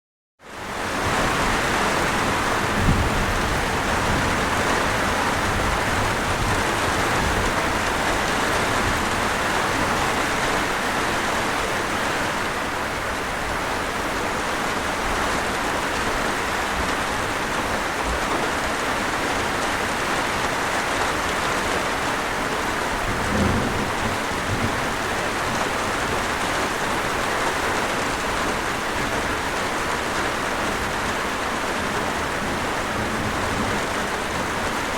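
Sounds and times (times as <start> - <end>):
falling rain: 0.4 - 34.9
waterfall rushing: 0.6 - 34.9.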